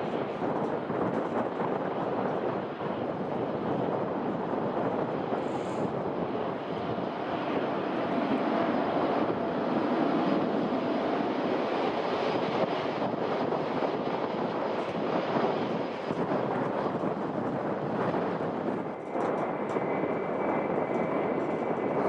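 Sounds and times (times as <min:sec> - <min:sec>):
airliner engines rushing: 0:00.0 - 0:22.0.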